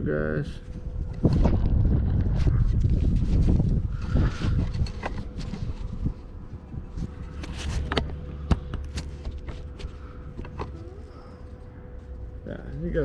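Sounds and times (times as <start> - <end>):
low rumble: 0.0 - 12.4
faint steady hum: 0.0 - 13.0.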